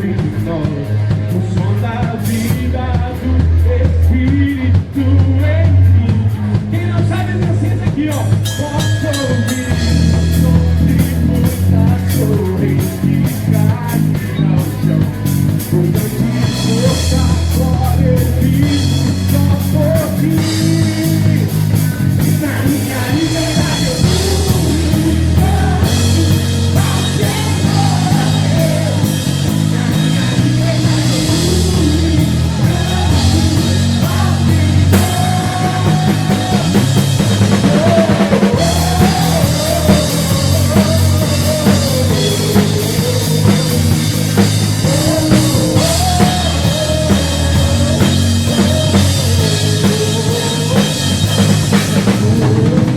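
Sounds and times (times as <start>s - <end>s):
bass guitar: 0.0s - 52.9s
drum kit with cymbal hits: 0.0s - 52.9s
rock song with singer: 0.0s - 52.9s.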